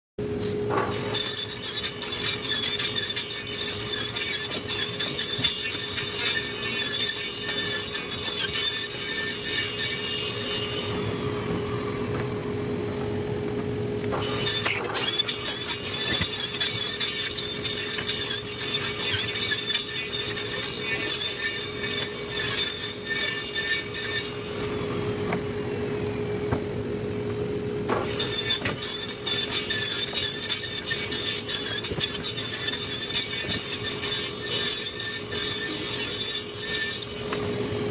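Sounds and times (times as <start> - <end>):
table saw blade whine: 0.2 - 37.9.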